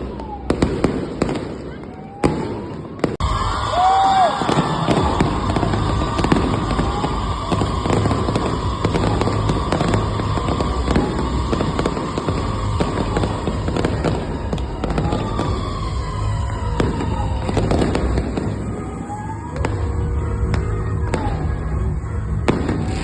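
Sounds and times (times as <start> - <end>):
fireworks bangs and crackling: 0.0 - 23.0
fireworks whistles: 0.0 - 23.0.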